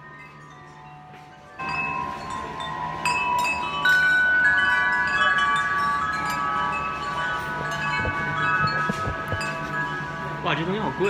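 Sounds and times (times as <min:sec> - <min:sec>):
metal tube wind chimes ringing: 0:00.0 - 0:11.0.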